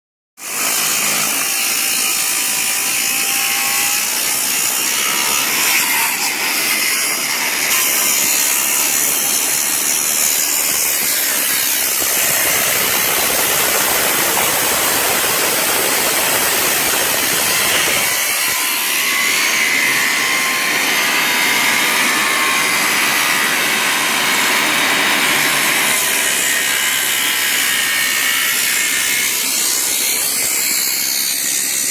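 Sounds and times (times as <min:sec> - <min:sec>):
angle grinder cutting floor: 0:00.4 - 0:31.9.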